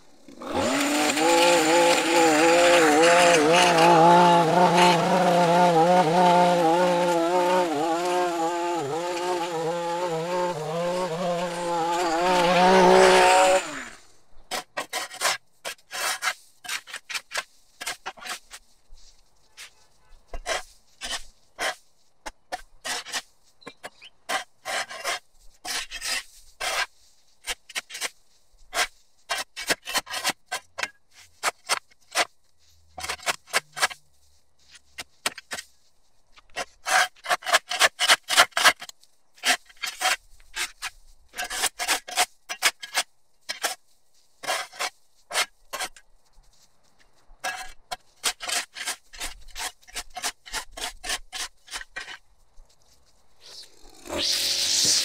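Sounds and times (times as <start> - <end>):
shovel scraping on concrete: 0.4 - 18.6, 20.3 - 21.8, 22.4 - 32.4, 33.0 - 34.0, 36.4 - 43.8, 44.4 - 46.0, 47.4 - 52.2, 53.4 - 55.0.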